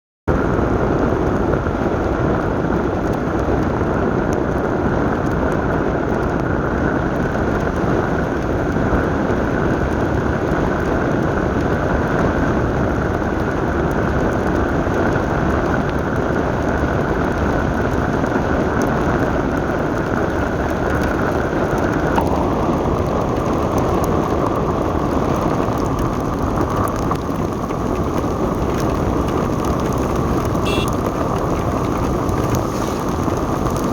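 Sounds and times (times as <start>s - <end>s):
steady rain: 0.3s - 33.9s
vehicle road and engine noise: 0.3s - 33.9s.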